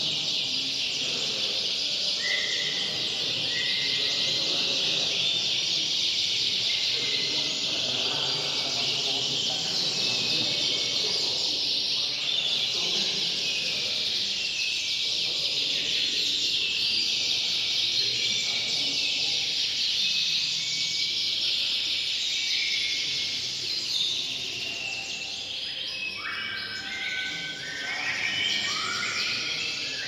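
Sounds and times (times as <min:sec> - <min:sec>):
canaries singing in chorus: 0:00.0 - 0:30.0.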